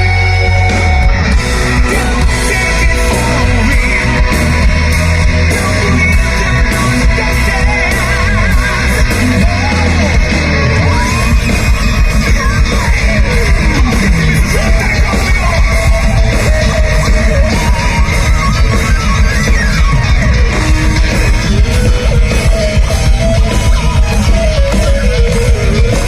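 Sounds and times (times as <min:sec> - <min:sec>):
heavy metal band playing live: 0:00.0 - 0:26.0
sliding guitar lead line: 0:00.0 - 0:26.0
yelled vocals: 0:00.0 - 0:26.0.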